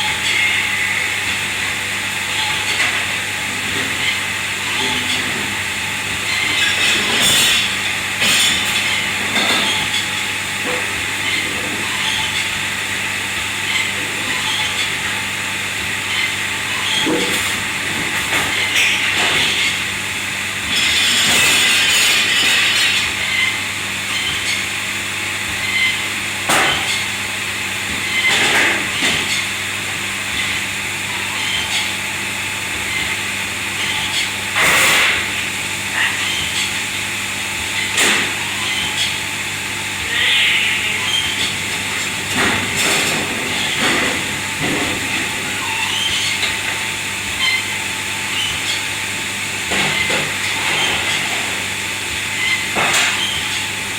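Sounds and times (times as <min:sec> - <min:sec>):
machinery humming and hissing: 0:00.0 - 0:53.9.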